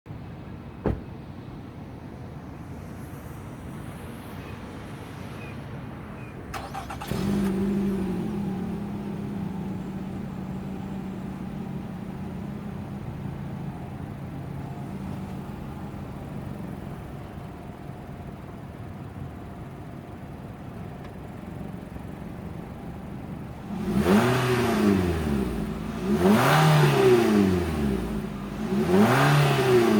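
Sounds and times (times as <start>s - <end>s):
car engine starting and idling: 0.6s - 1.7s, 6.1s - 29.9s.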